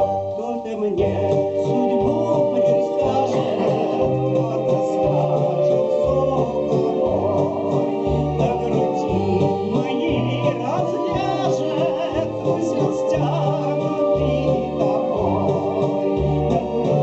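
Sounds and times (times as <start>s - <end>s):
electronic organ accompaniment: 0.0s - 17.0s.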